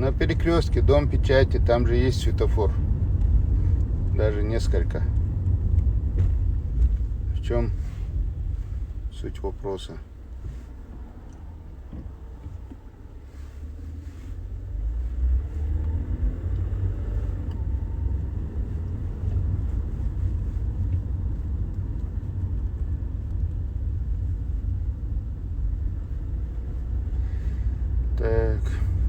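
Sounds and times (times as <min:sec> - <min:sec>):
car driving heard from inside: 0:00.0 - 0:29.0.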